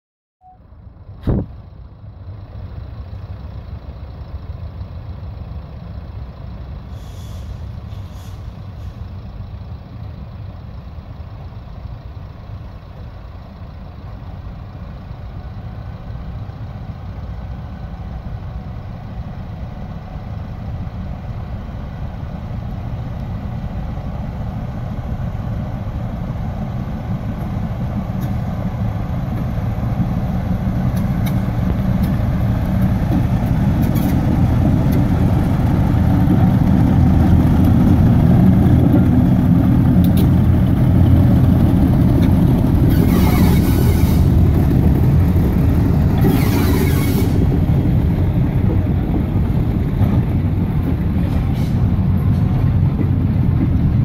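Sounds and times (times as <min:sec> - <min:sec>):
diesel locomotive engine rumble: 0:00.4 - 0:54.0.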